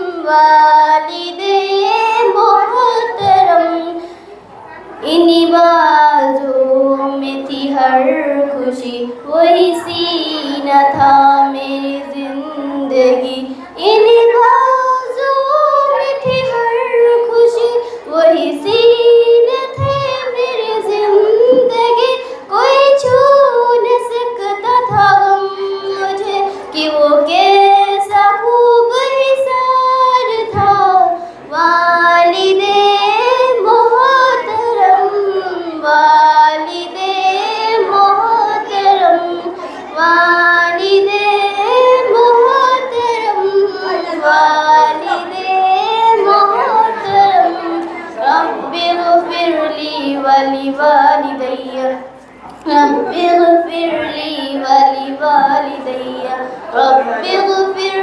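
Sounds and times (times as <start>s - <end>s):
girl singing into microphone: 0.0s - 58.0s.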